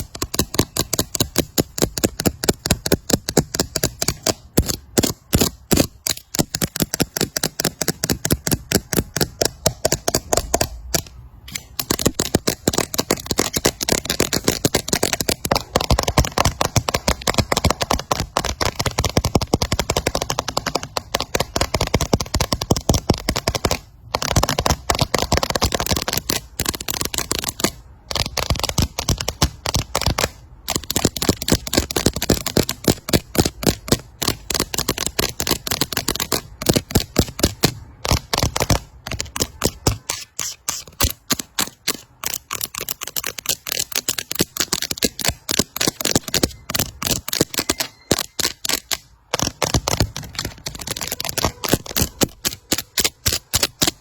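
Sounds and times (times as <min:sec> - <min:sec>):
fast sharp tapping: 0:00.0 - 0:54.0.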